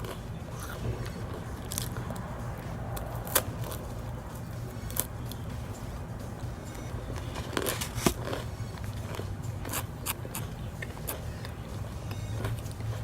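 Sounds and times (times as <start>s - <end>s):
ice cream cone crunching: 0.0s - 13.0s
low steady hum: 0.0s - 13.0s.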